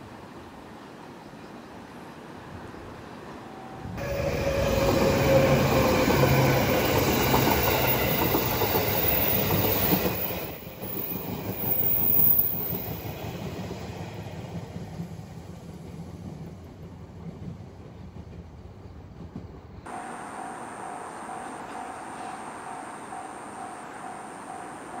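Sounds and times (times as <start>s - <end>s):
train wheels on rails: 2.5s - 25.0s.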